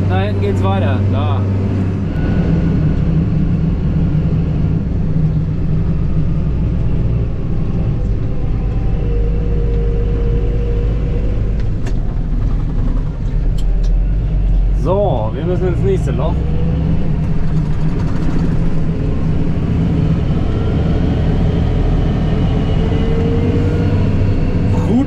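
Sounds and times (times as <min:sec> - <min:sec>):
tractor diesel engine drone: 0:00.0 - 0:25.0.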